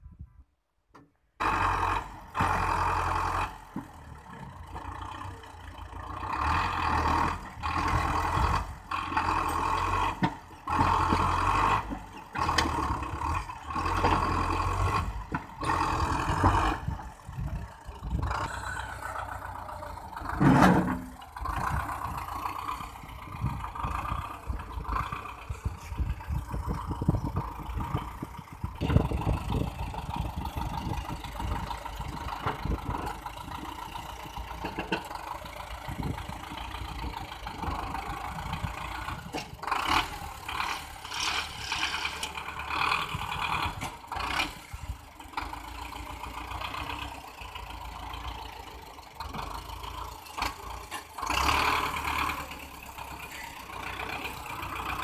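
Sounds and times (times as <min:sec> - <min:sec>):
tractor diesel engine revving: 0:01.4 - 0:55.0.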